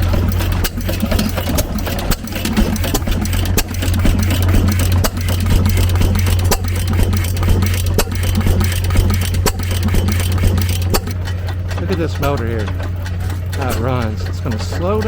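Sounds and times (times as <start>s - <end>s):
farm engines firing: 0.0s - 15.0s
low engine drone: 0.0s - 15.0s.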